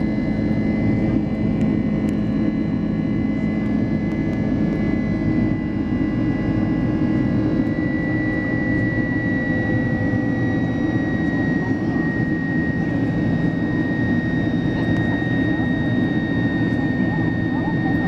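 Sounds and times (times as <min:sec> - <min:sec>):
jet engines rumbling with whine: 0:00.0 - 0:18.0.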